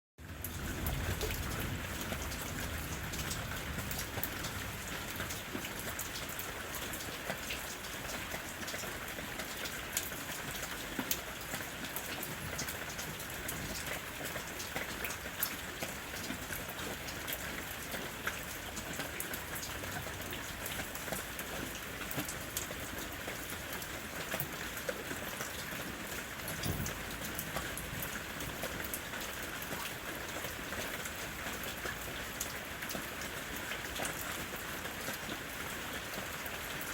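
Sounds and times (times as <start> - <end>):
raindrops ticking: 0.2 - 36.9
rain hiss: 0.3 - 36.9.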